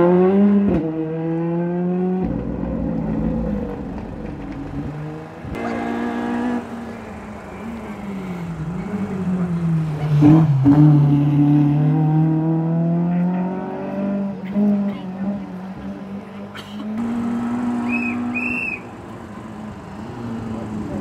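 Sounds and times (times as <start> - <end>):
rally car engines at full throttle: 0.0 - 21.0.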